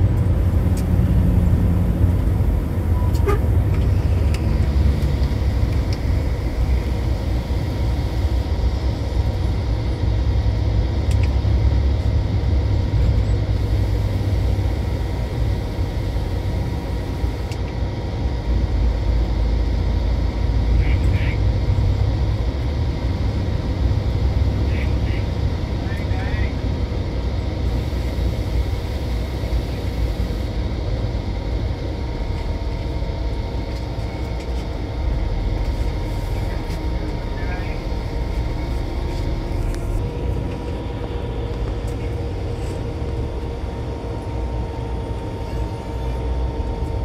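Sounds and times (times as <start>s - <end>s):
bus engine and road rumble: 0.0s - 47.0s.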